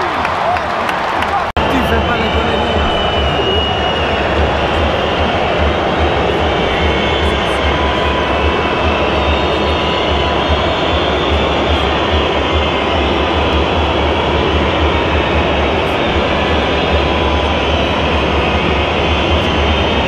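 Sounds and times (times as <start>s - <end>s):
stadium crowd din: 0.0s - 20.0s.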